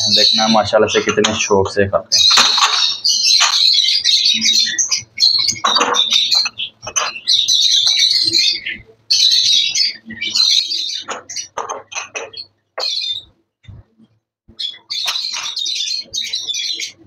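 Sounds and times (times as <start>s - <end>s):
lovebirds chattering and screeching: 0.0s - 17.0s.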